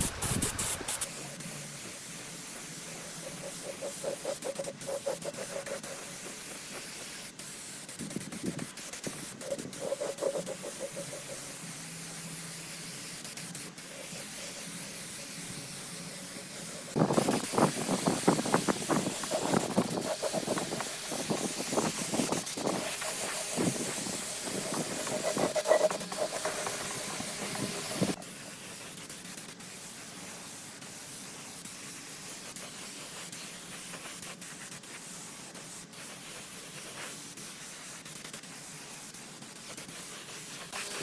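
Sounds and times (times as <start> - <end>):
hissing spray: 0.0 - 41.0.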